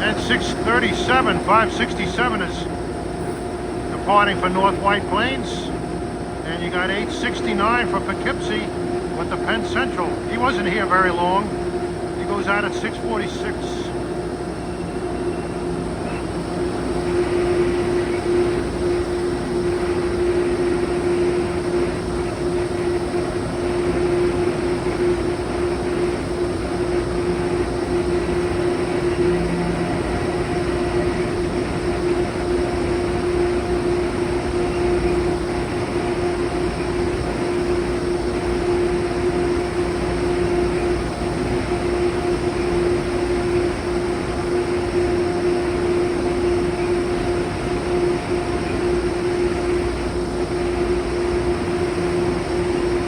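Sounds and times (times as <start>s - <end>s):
train humming at platform: 0.0s - 53.0s.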